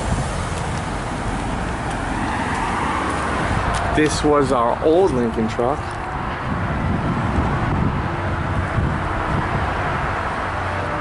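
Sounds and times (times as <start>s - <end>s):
road traffic noise: 0.0s - 11.0s
wind rumbling on microphone: 0.0s - 11.0s.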